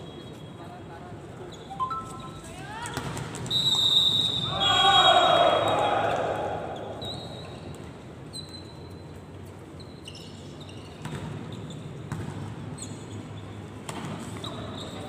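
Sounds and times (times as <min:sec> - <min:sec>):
shoes squeaking on court floor: 0:00.0 - 0:03.8, 0:06.7 - 0:15.0.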